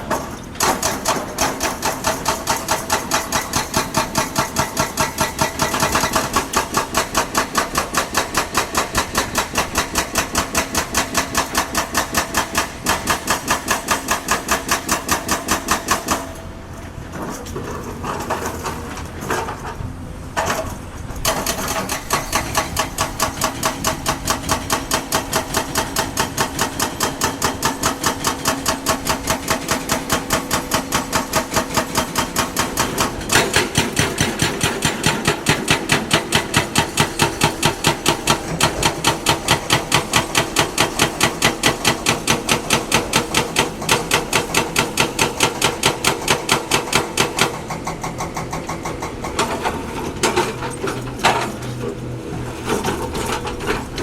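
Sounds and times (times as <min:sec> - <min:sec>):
excavator rapid knocking: 0:00.0 - 0:16.4, 0:20.3 - 0:54.0
excavator engine running: 0:00.0 - 0:54.0.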